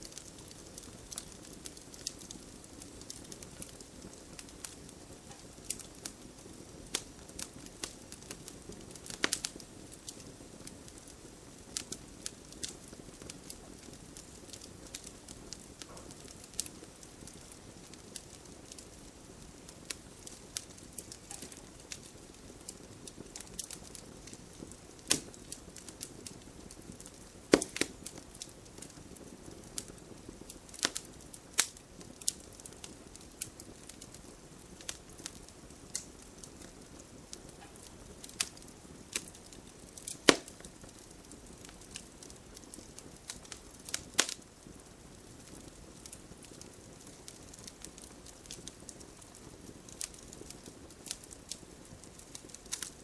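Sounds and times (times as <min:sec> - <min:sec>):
burning logs popping: 0:00.0 - 0:53.0
campfire crackling: 0:00.0 - 0:53.0
fire hissing: 0:00.0 - 0:53.0.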